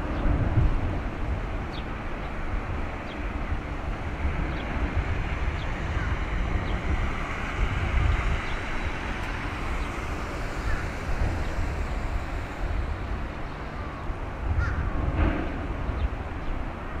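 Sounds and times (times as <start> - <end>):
steady rumbling noise: 0.0 - 17.0
wind buffeting microphone: 0.0 - 17.0.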